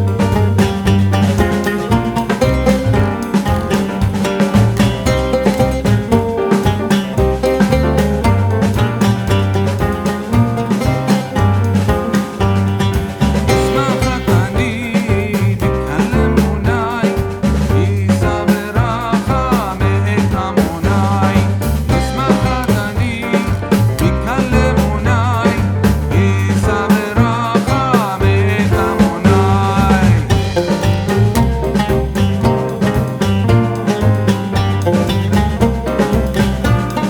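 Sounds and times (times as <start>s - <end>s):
upbeat background music: 0.0s - 37.0s.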